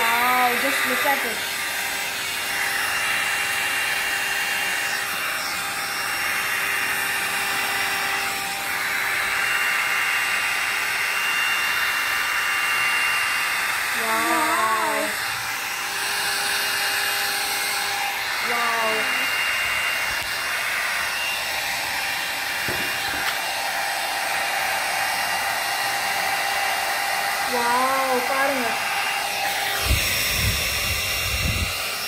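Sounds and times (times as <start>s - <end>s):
hair dryer blowing: 0.0s - 32.0s.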